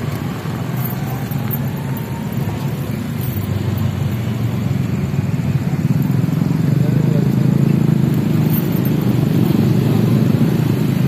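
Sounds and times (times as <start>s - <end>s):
low engine rumble of traffic: 0.0s - 11.0s.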